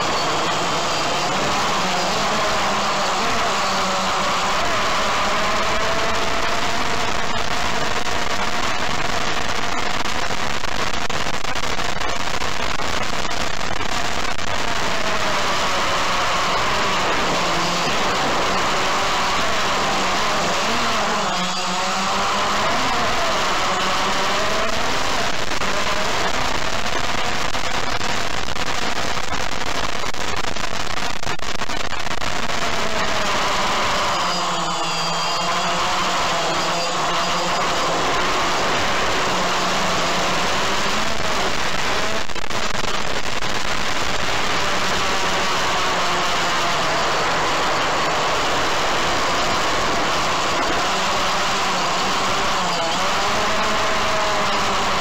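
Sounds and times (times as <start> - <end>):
drone propellers whining: 0.0 - 10.3, 12.5 - 27.8, 32.2 - 42.6, 43.7 - 55.0.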